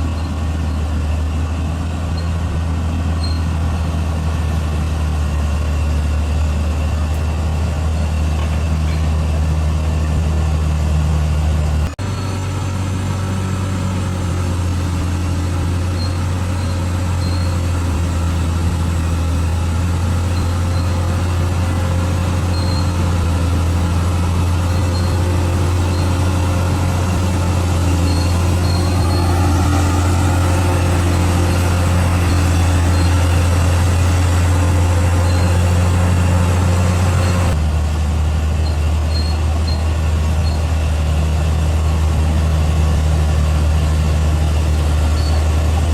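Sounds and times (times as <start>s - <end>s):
bulldozer diesel engine droning: 0.0s - 45.9s.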